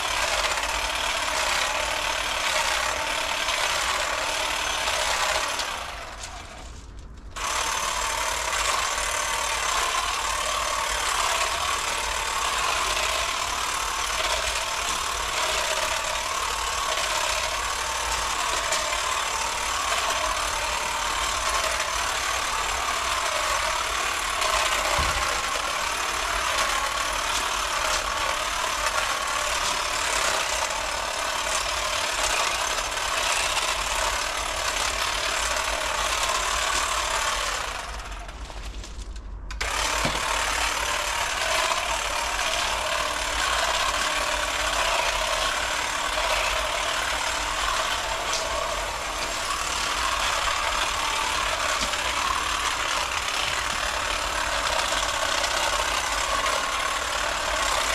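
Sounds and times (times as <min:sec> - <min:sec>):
electric hedge trimmer running: 0:00.0 - 0:06.8, 0:07.4 - 0:38.8, 0:39.5 - 0:57.9.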